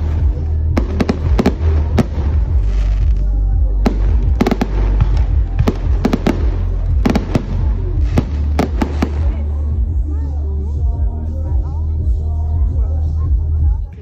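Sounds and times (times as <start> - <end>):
deep low rumble: 0.0 - 14.0.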